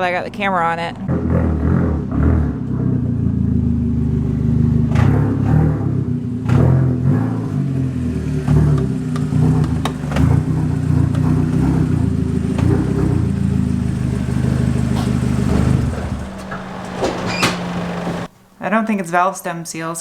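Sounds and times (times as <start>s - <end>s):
car engine idling: 0.0s - 18.6s.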